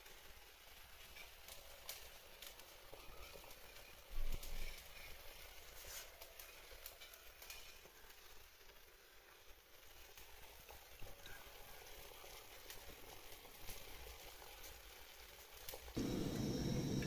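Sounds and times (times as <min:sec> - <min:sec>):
pot bubbling: 0:00.0 - 0:17.0.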